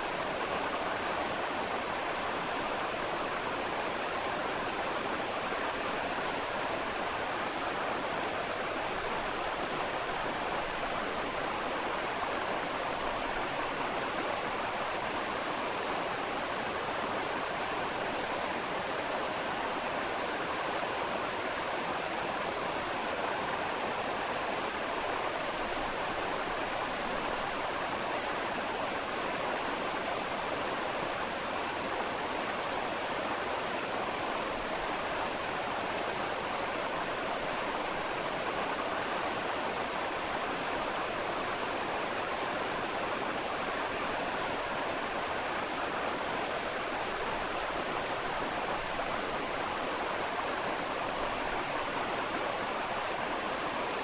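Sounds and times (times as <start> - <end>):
river rushing water: 0.0 - 54.0.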